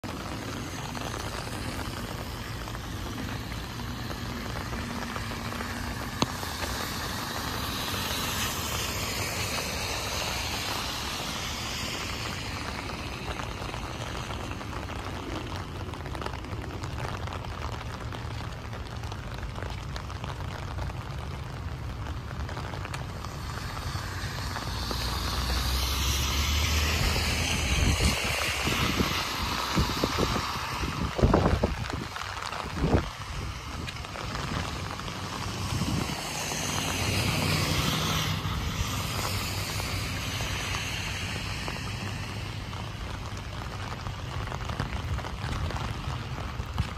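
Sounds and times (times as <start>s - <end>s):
steady rain: 0.0s - 46.9s
tyres hissing on wet road: 0.0s - 46.9s.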